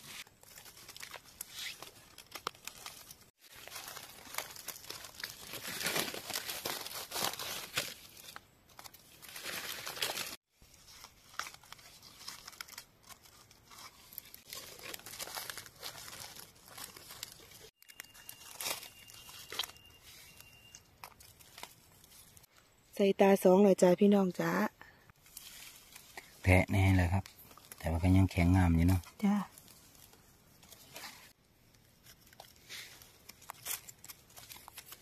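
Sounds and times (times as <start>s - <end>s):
dry leaves rustling and crackling: 0.0s - 22.5s, 25.2s - 35.0s.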